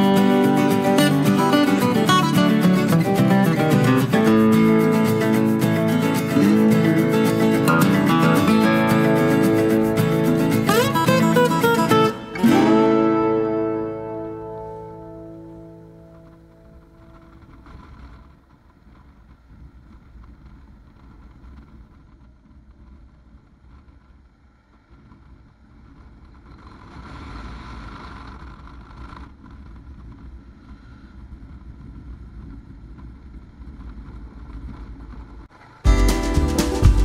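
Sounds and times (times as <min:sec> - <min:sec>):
motorcycle engine rumbling: 0:00.0 - 0:37.0
wind noise on microphone: 0:00.0 - 0:37.0.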